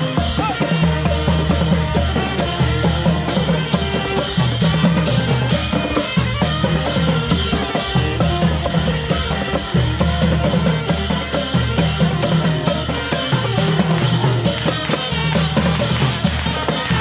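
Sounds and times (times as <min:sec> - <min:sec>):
music with busy drum beat: 0:00.0 - 0:17.0.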